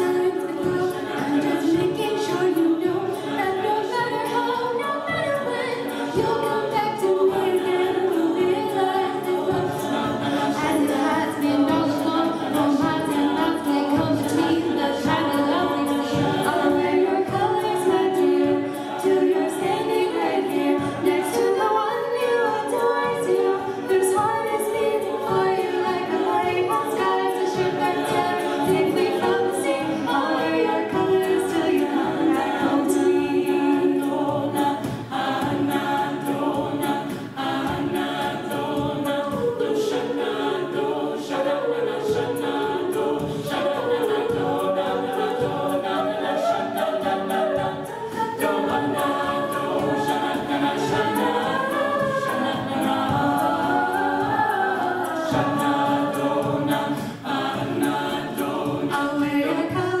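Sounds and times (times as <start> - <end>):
a cappella group singing: 0.0 - 60.0
women singing lead: 0.0 - 60.0.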